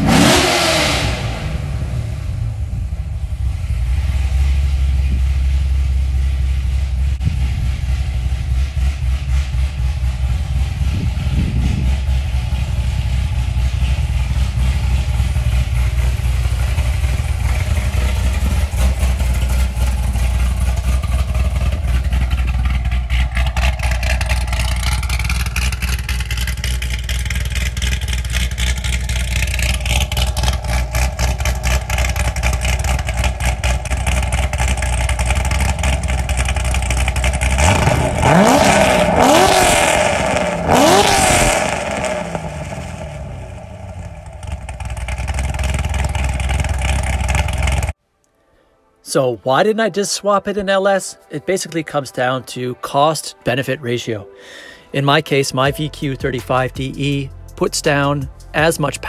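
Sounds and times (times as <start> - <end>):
car engine idling and revving: 0.0 - 48.0, 55.7 - 59.0.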